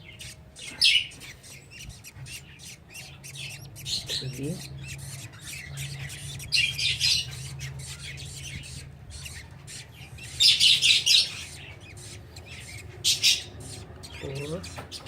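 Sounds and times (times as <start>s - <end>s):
budgies squawking: 0.0s - 15.0s
faint low hum: 0.0s - 15.0s.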